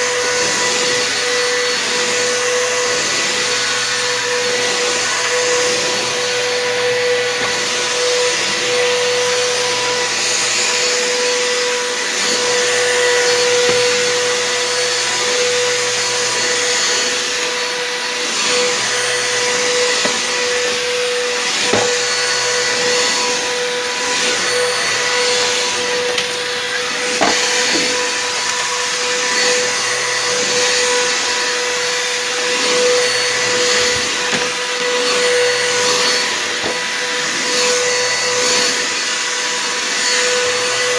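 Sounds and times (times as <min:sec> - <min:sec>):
vacuum cleaner whine: 0:00.0 - 0:40.9.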